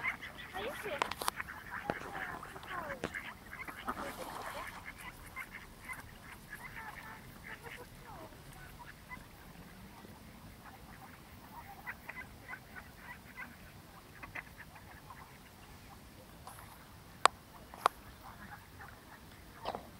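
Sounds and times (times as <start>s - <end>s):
ducks quacking: 0.0s - 19.9s.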